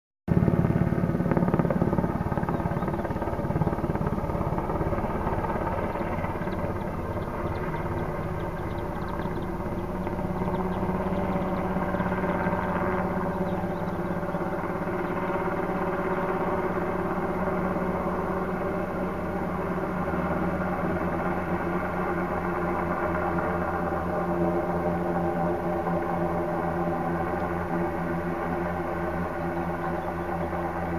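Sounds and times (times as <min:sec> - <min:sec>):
helicopter engine and rotor drone: 0:00.3 - 0:30.9.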